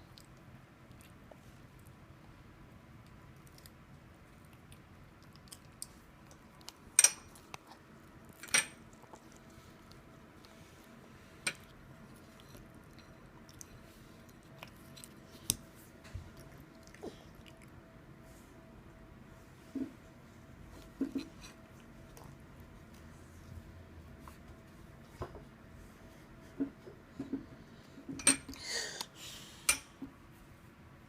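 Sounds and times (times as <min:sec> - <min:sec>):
faint room hum: 0:00.0 - 0:31.0.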